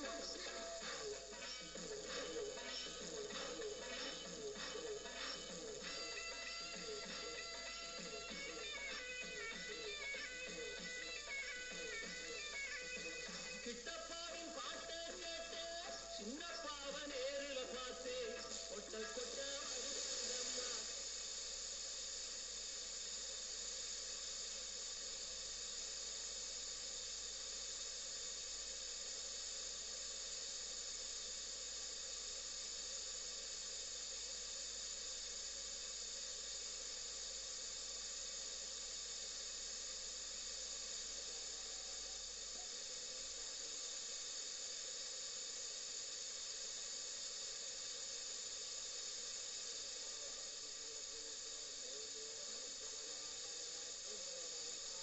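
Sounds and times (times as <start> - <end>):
faint low hum: 0.0 - 55.0
radio static hiss: 0.0 - 55.0.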